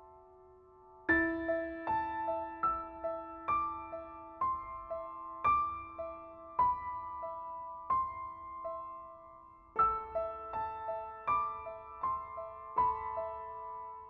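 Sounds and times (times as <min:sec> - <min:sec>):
slow solo piano: 0:00.0 - 0:14.0.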